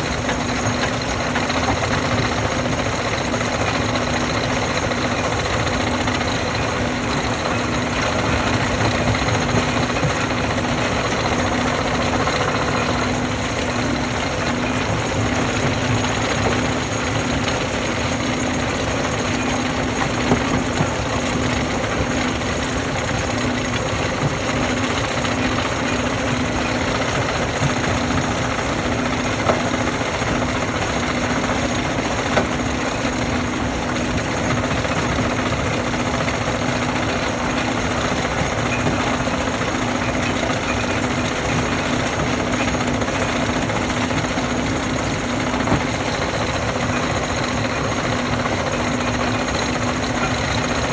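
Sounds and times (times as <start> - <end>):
stone-crushing machinery rattling: 0.0 - 50.9.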